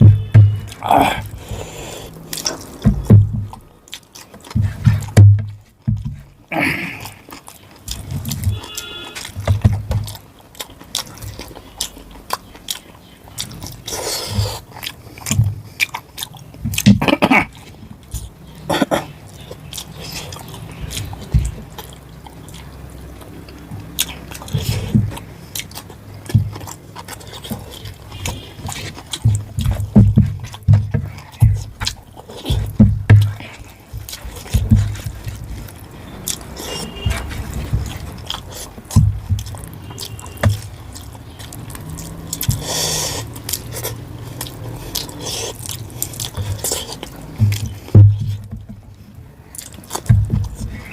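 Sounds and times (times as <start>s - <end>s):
wet chewing and lip smacks: 0.0s - 50.9s.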